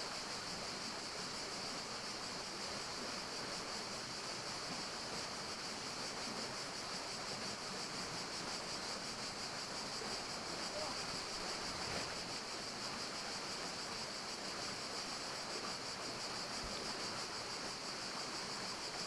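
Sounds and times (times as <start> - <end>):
forest ambience hiss: 0.0 - 19.0.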